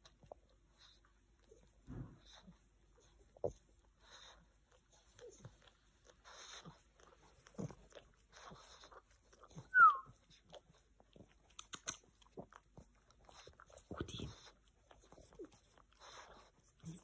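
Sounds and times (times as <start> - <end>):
dog licking its paw: 0.0 - 17.0.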